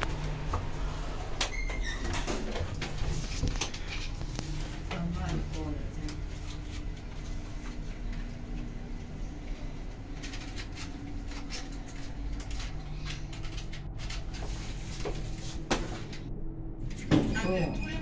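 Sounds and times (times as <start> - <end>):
elevator hum: 0.0 - 18.0.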